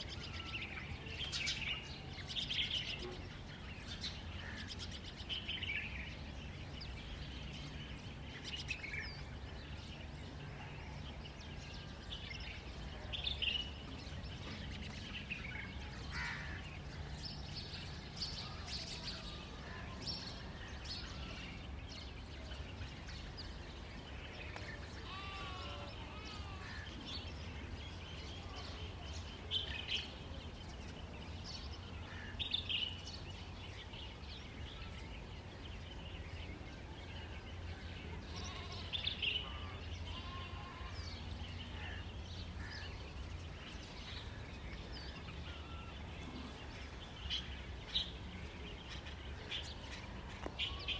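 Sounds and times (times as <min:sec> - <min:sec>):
birds chirping and calling: 0:00.0 - 0:50.9.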